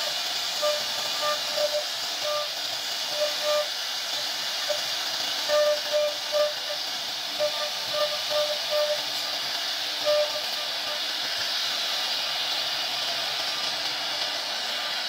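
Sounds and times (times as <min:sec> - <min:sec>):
cnc router spindle hiss: 0:00.0 - 0:15.0.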